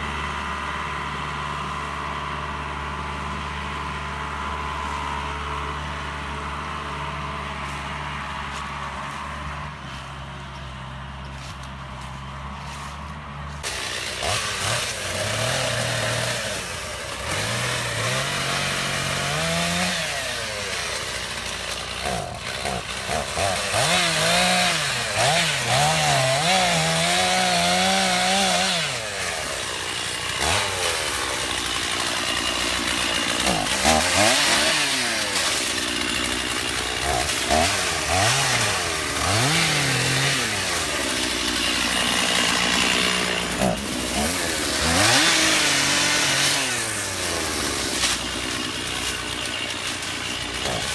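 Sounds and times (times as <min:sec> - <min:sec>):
chainsaw revving: 0:00.0 - 0:50.9
tractor engine running: 0:00.0 - 0:50.9.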